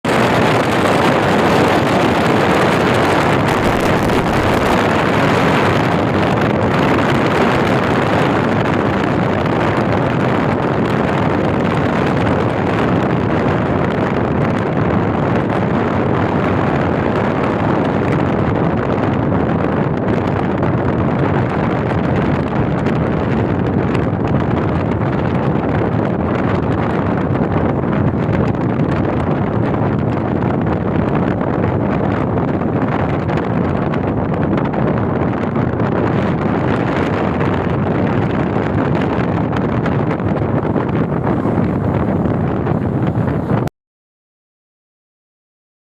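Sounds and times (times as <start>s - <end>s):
wind blowing over microphone: 0.0s - 43.7s.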